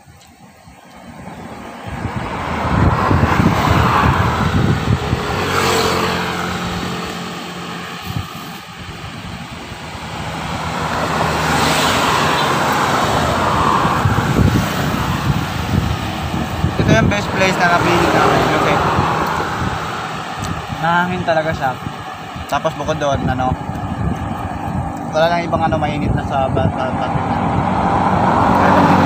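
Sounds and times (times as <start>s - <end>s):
engine hum: 0.0s - 29.0s
road traffic passing: 0.0s - 29.0s
wind rumbling on microphone: 0.0s - 29.0s.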